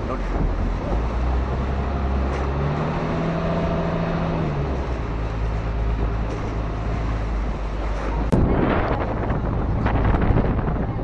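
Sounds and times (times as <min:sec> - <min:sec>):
boat engine running: 0:00.0 - 0:11.0
rush of wind and water: 0:00.0 - 0:11.0.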